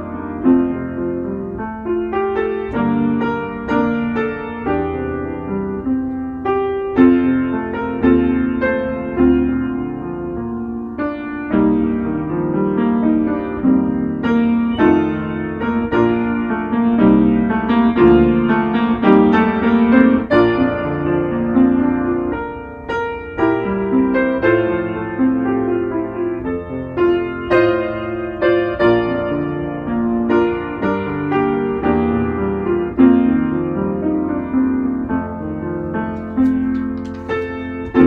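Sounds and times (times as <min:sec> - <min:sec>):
piano chords ringing: 0:00.0 - 0:38.0.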